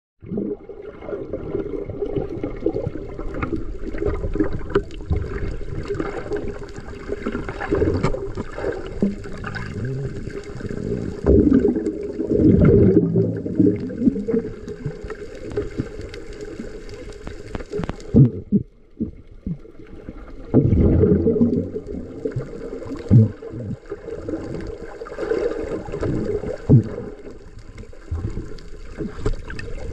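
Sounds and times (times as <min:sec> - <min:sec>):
muffled underwater water sloshing: 0:00.2 - 0:29.9.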